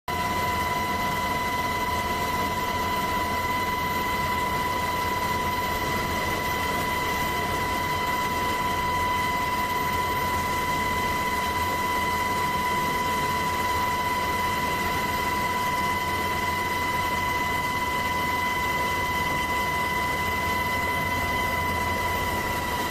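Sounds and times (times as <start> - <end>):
aircraft drone: 0.1 - 22.9
high-pitched whine: 0.1 - 22.9.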